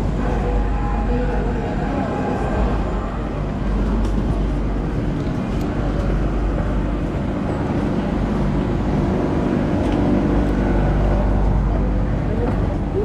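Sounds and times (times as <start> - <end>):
passengers boarding: 0.0 - 13.0
train rumble and hum: 0.0 - 13.0.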